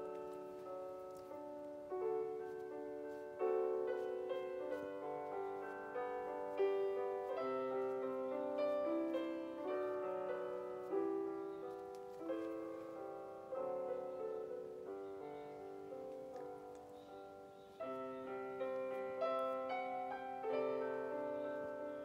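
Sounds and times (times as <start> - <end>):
slow solo piano melody: 0.0 - 22.0.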